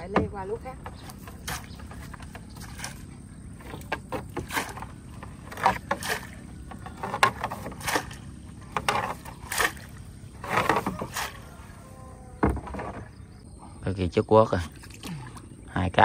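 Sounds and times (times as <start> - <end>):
water splashing: 0.0 - 13.4, 14.5 - 15.6.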